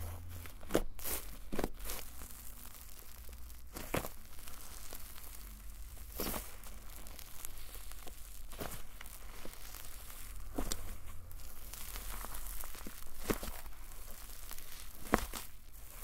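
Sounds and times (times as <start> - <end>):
slime crackling and tearing: 0.0 - 16.0.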